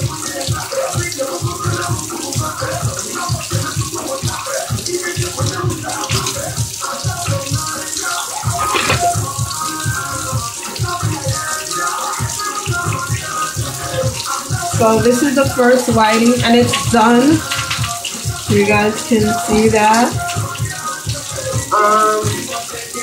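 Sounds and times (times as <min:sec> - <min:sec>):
background music with steady beat: 0:00.0 - 0:23.0
steady kitchen hiss: 0:00.0 - 0:23.0.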